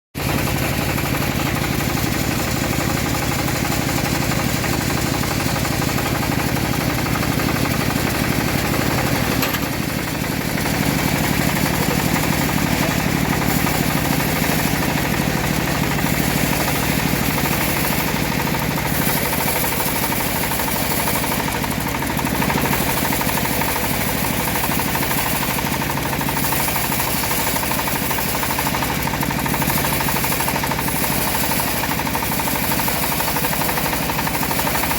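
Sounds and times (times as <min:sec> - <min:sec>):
bandsaw mill engine: 0:00.2 - 0:34.9.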